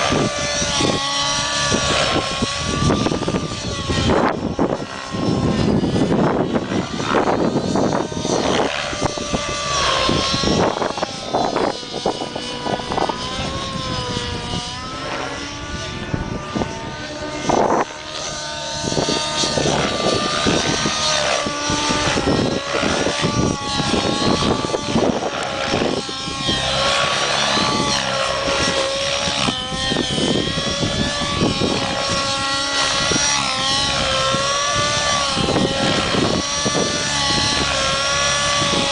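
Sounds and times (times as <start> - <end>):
model helicopter engine whining: 0.0 - 38.9.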